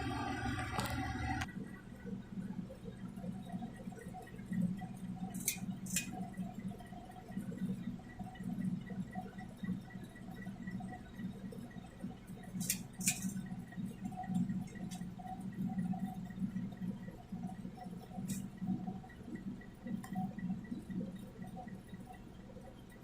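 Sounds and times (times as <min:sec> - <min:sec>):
ceiling fan motor hum: 0:00.0 - 0:23.0.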